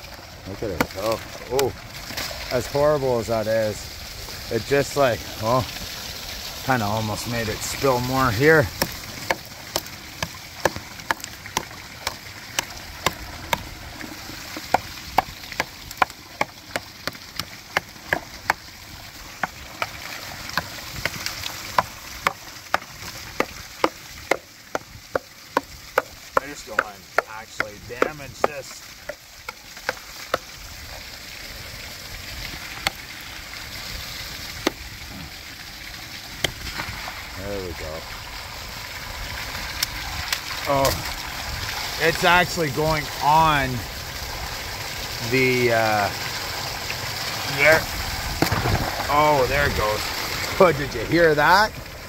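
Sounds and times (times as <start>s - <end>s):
falling water rushing: 0.0s - 52.0s.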